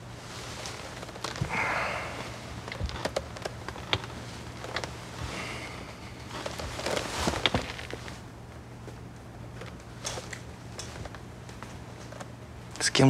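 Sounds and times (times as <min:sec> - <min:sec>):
chair creaking: 0:00.0 - 0:12.4
clothes rustling: 0:00.0 - 0:12.4
faint low hum: 0:00.0 - 0:13.0.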